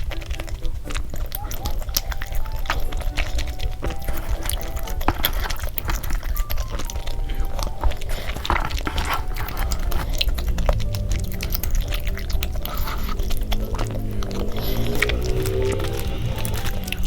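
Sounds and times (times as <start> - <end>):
chewing and biting: 0.0 - 17.0
light background music: 0.0 - 17.0
wet mouth clicks: 0.0 - 17.0.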